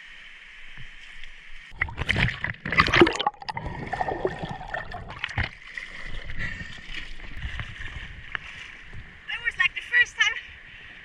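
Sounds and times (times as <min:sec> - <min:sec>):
water splashing and gurgling: 0:00.0 - 0:10.5.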